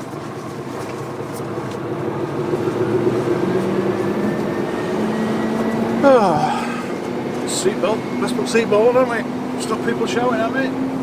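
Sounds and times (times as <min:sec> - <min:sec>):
truck diesel engine pulling away: 0:00.0 - 0:11.0.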